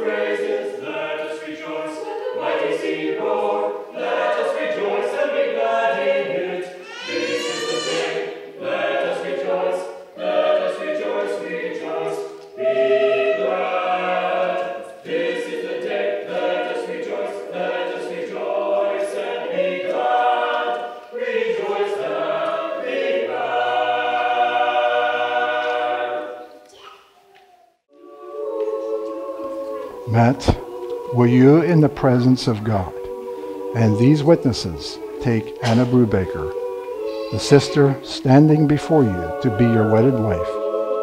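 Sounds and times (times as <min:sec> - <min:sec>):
choir singing a cappella: 0:00.0 - 0:26.7, 0:27.9 - 0:41.0.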